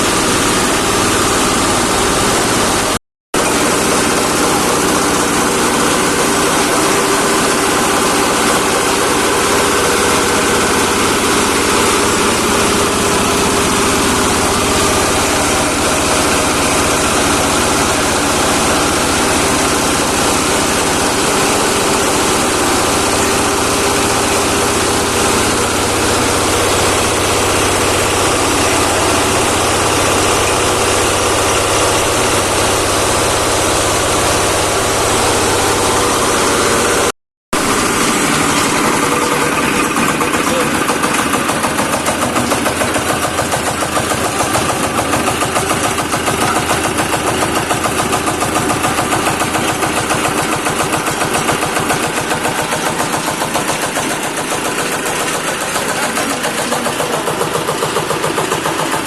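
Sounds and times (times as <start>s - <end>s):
compost shredder running: 0.0s - 59.0s.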